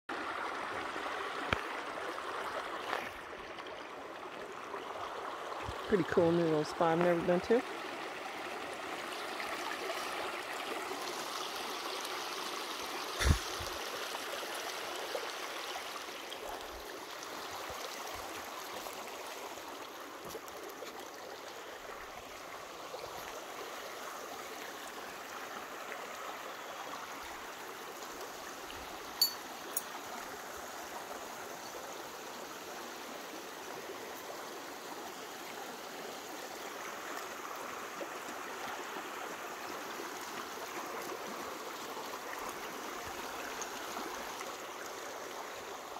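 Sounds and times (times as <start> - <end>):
creek running over stones: 0.1 - 45.9.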